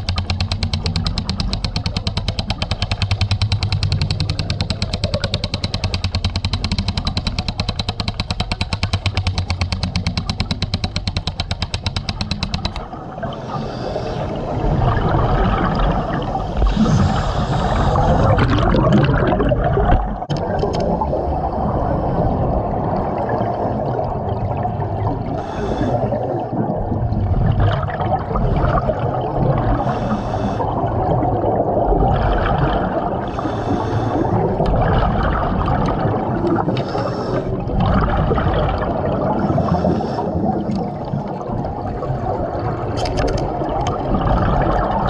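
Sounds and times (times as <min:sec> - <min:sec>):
rush of water and air: 0:00.0 - 0:45.0.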